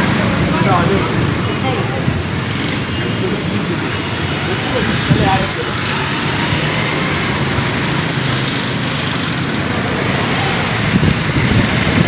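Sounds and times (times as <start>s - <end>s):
street traffic rumble and hiss: 0.0s - 12.0s.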